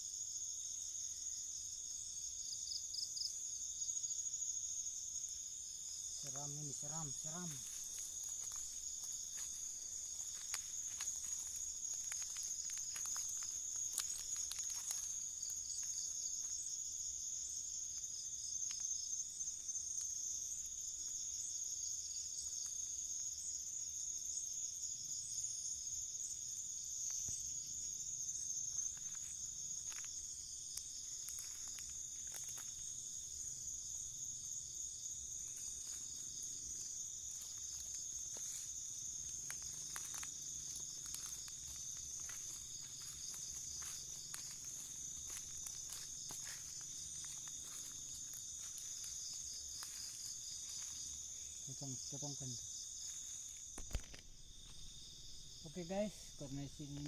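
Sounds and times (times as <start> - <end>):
night insects trilling: 0.0 - 57.0.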